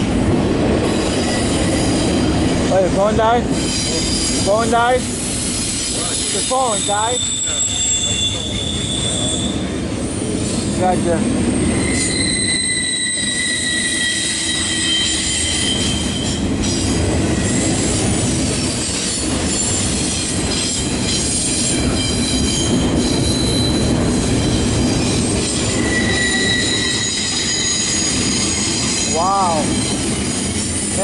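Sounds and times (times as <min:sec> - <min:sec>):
train wheels rumbling on rail: 0:00.0 - 0:31.0
high-pitched wheel squeals: 0:03.5 - 0:31.0.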